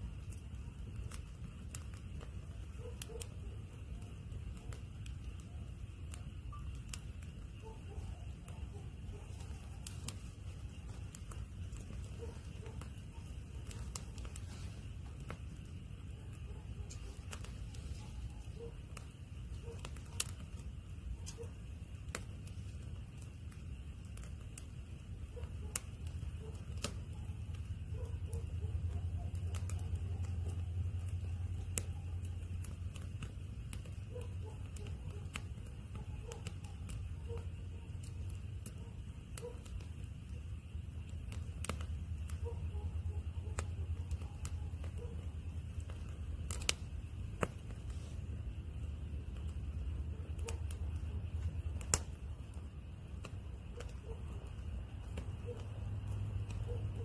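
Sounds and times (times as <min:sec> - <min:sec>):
firewood crackling and popping: 0:00.0 - 0:57.0
low fire rumble: 0:00.0 - 0:57.0.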